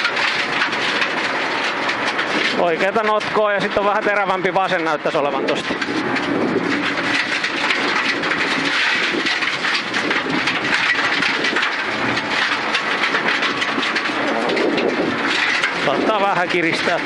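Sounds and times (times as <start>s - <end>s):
car engine running: 0.0s - 17.0s
tyre and gravel noise: 0.0s - 17.0s.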